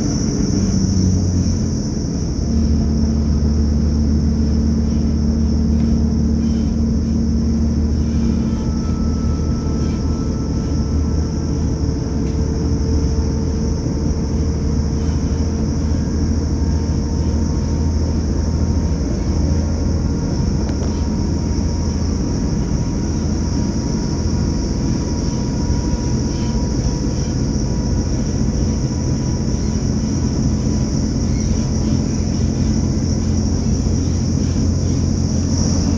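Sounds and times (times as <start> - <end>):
diesel engine deep drone: 0.0 - 35.9.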